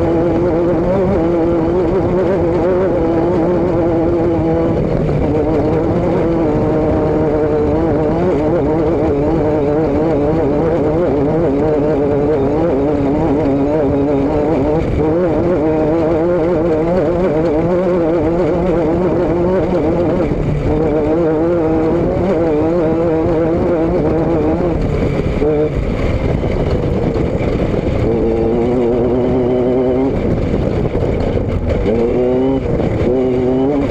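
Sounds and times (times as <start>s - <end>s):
vehicle engine droning: 0.0s - 33.9s.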